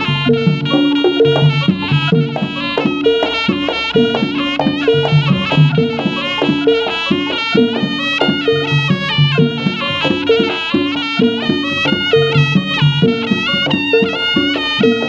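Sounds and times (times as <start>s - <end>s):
drums: 0.0s - 15.0s
shrill double-reed melody: 0.0s - 15.0s.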